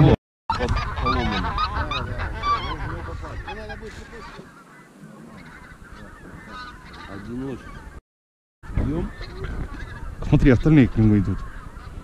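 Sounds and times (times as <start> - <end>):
geese honking: 0.5 - 8.0, 8.7 - 12.0.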